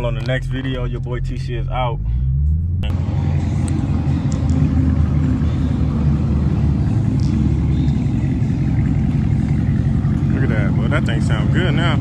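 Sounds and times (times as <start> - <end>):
loud low exhaust rumble: 0.0 - 12.0.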